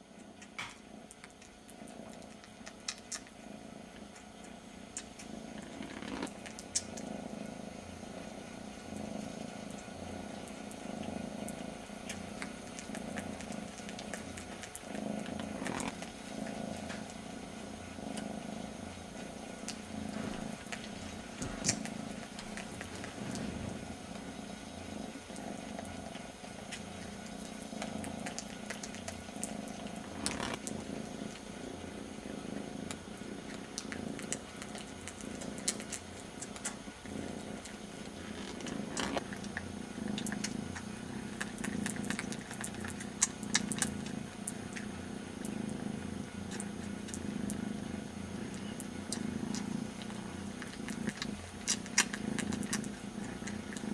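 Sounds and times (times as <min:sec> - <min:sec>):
kitten purring: 0:00.0 - 0:53.9.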